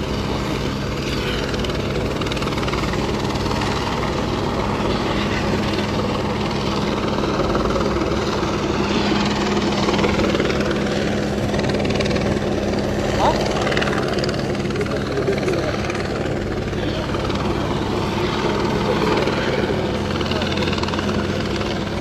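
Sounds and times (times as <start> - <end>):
crowd murmuring: 0.0 - 22.0
loud engine drone: 0.0 - 22.0.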